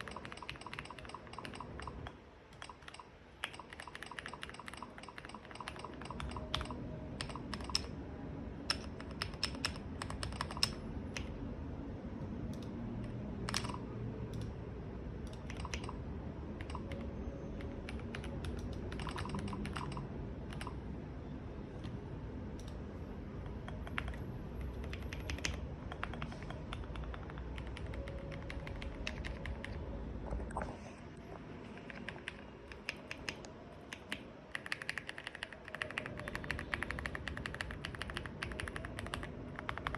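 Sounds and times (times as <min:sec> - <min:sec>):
mechanical keyboard typing: 0:00.0 - 0:08.0, 0:08.6 - 0:11.4, 0:12.5 - 0:14.5, 0:15.3 - 0:20.8, 0:23.4 - 0:29.8, 0:31.8 - 0:39.9.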